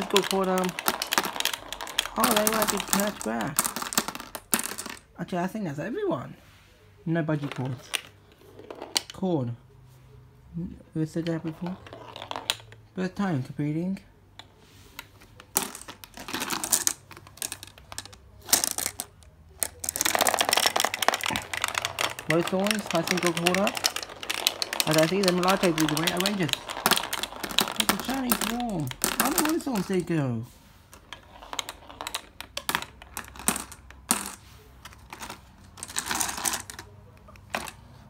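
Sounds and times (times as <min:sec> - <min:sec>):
marbles clattering on plastic track: 0:00.0 - 0:05.1, 0:07.3 - 0:09.2, 0:11.0 - 0:13.5, 0:15.0 - 0:30.3, 0:30.9 - 0:37.8.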